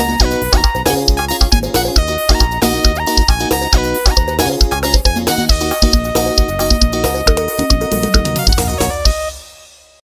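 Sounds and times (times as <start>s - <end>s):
sustained keyboard tones: 0.0s - 9.2s
kick drum beat: 0.0s - 9.3s.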